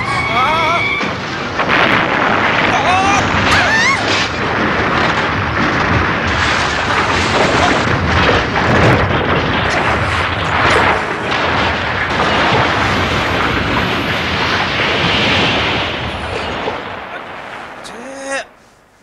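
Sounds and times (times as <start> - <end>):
truck crashing: 0.0 - 18.5.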